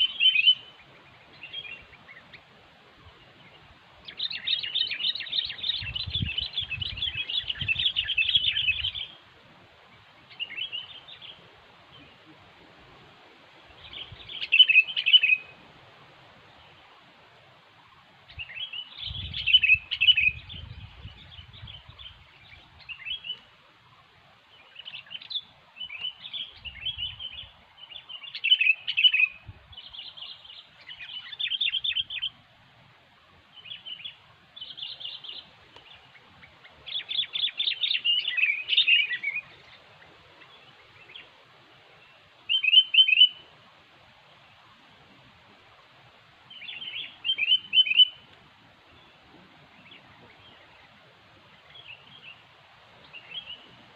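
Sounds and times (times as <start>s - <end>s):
birds chirping: 0.0s - 15.7s, 16.4s - 53.9s.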